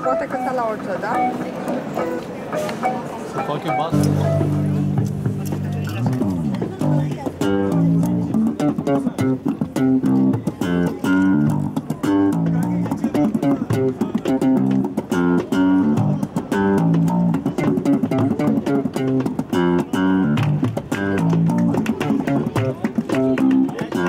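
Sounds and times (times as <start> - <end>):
guitar picking notes: 0.0 - 24.0
plucked bass line: 2.8 - 24.0.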